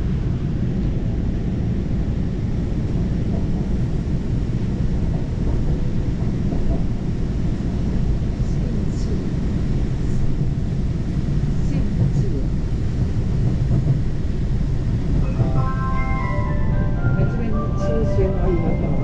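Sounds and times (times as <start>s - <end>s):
train rumbling in motion: 0.0s - 19.0s.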